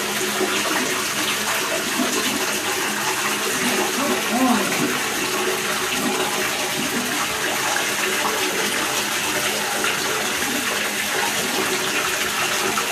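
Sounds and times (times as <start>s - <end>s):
water running into bathtub: 0.0s - 12.9s.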